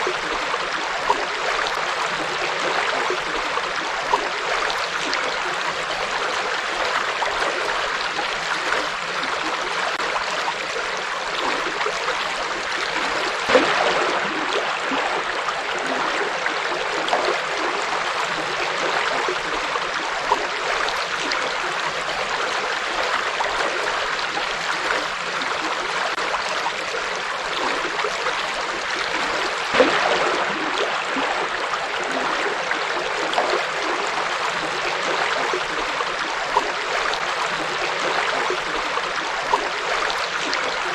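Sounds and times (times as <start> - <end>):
river water flowing: 0.0 - 40.9
water splashes: 0.0 - 40.9.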